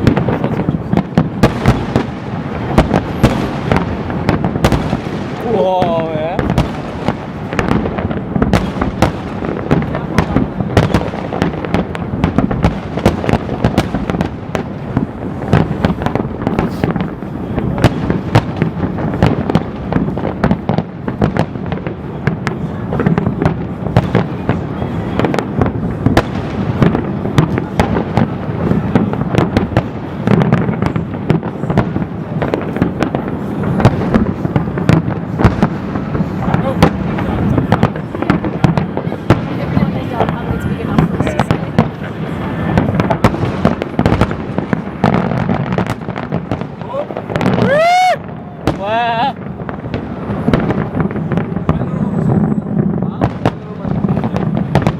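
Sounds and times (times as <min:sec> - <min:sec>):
fireworks bangs: 0:00.0 - 0:54.9.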